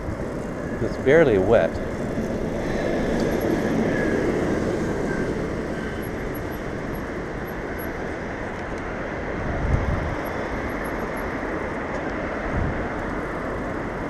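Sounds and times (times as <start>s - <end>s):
bicycle road noise on wet pavement: 0.0s - 14.0s
light city traffic: 0.0s - 14.0s.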